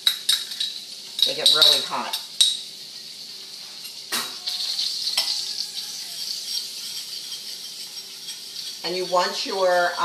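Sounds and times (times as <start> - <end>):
garlic sizzling in oil: 0.0 - 10.0.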